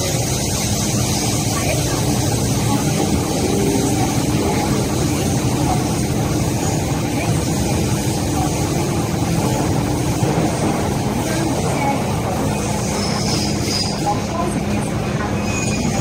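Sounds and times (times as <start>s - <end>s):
train rumbling inside car: 0.0s - 16.0s.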